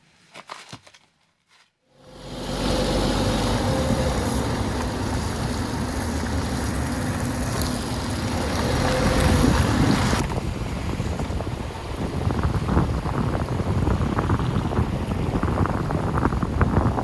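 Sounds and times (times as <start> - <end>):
vehicle engine and road rumble: 1.9 - 17.0
wind noise: 2.0 - 17.0.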